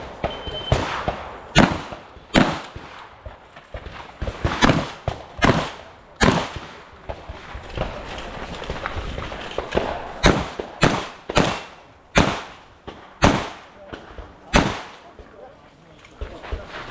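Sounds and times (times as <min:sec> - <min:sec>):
shotgun shots echoing: 0:00.0 - 0:15.2.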